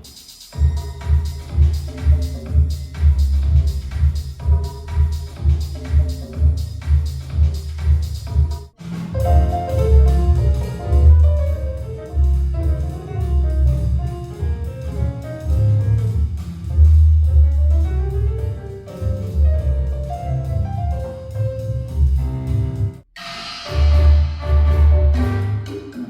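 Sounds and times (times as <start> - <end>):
music with pulsing bass line: 0.0 - 23.0, 23.7 - 26.0.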